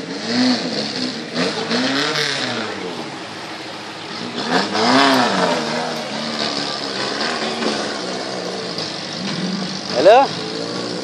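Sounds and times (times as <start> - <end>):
off-road engine revving hard: 0.0 - 11.0.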